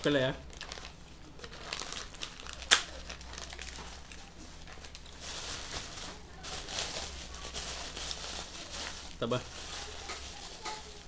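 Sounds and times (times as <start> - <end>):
paper and plastic bag crinkling: 0.0 - 11.0.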